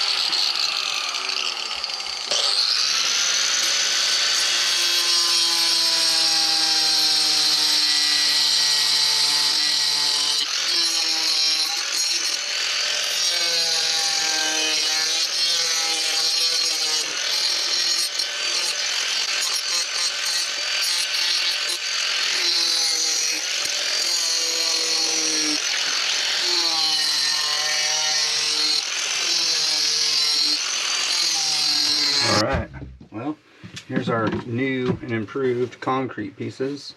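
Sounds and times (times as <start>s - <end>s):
power saw cutting concrete: 0.0s - 32.5s.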